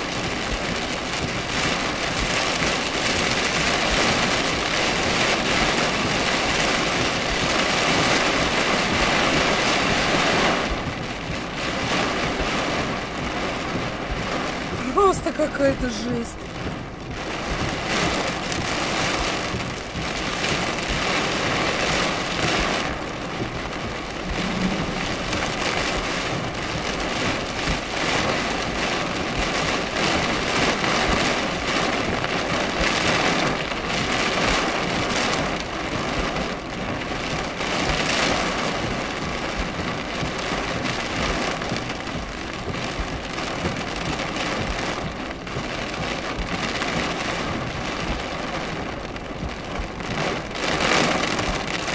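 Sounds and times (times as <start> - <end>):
heavy rain drumming on car roof: 0.0 - 51.9.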